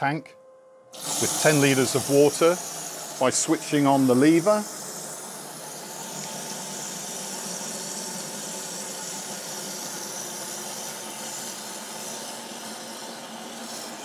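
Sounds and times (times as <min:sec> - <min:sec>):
tap water filling plastic tank: 0:01.0 - 0:13.8.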